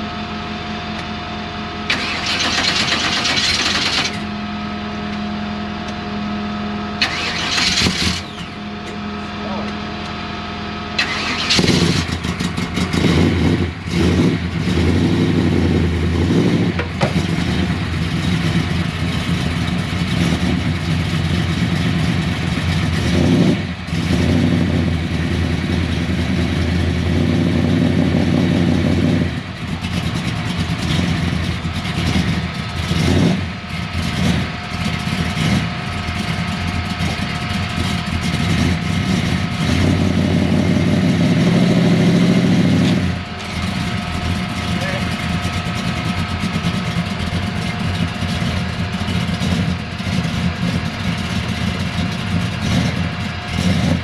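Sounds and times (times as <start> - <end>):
car engine revving: 1.8 - 54.0.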